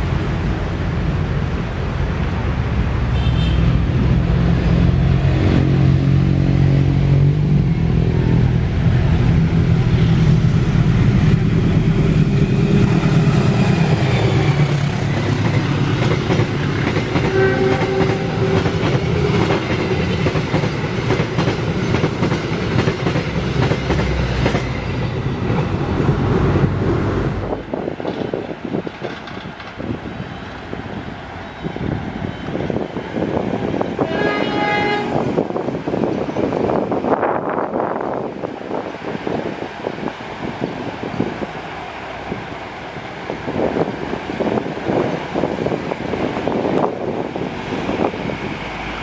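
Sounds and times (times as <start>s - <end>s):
diesel locomotive engine: 0.0s - 49.0s.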